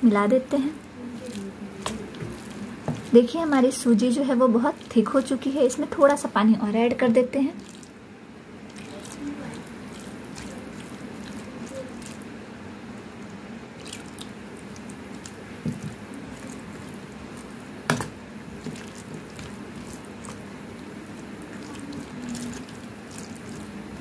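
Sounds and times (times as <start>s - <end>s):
spoon stirring wet batter: 0.2s - 6.3s, 7.4s - 8.0s, 8.6s - 12.3s, 13.0s - 24.0s.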